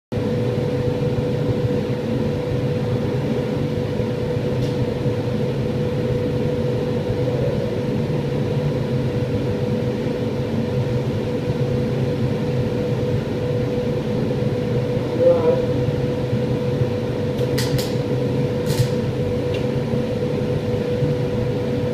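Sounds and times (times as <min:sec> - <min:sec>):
fan hum: 0:00.2 - 0:21.9.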